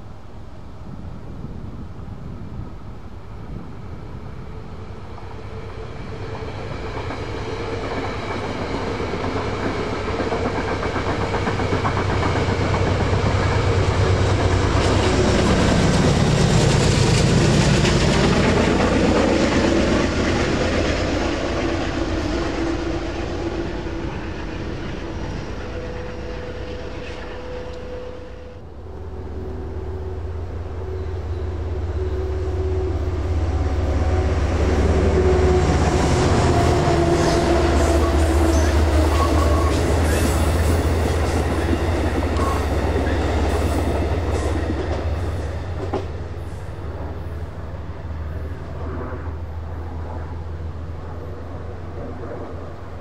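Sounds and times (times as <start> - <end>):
train passing by: 0.0 - 53.0.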